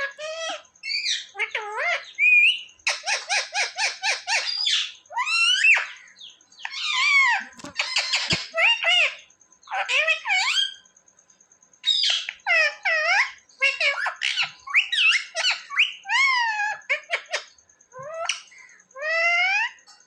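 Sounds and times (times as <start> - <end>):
parrot chattering and squawking: 0.0 - 10.8, 11.8 - 19.8.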